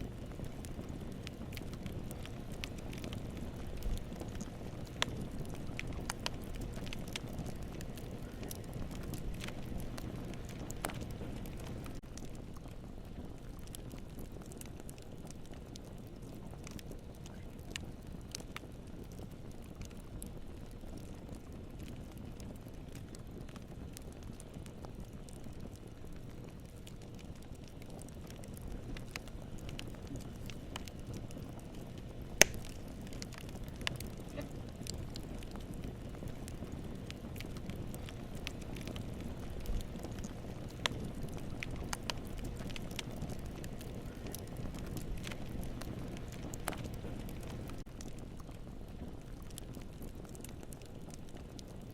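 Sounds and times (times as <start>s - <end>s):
campfire flames rumbling: 0.0s - 51.9s
fire crackling and popping: 0.0s - 51.9s.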